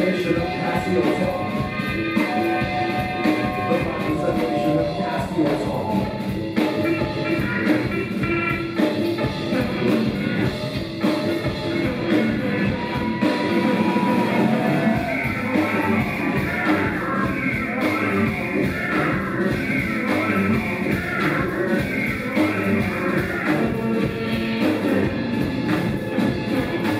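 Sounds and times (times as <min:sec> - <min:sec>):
rock band playing live: 0:00.0 - 0:26.9
steady drum beat: 0:00.0 - 0:26.9.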